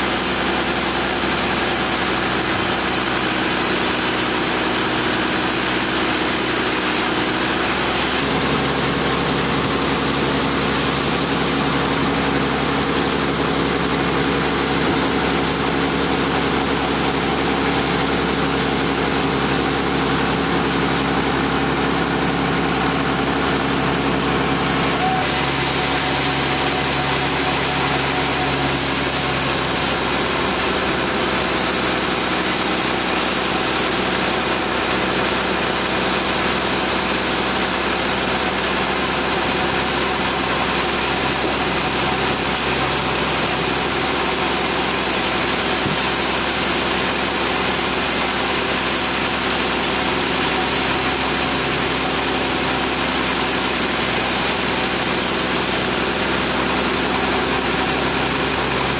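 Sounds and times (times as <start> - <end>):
engine droning steadily: 0.0 - 58.9.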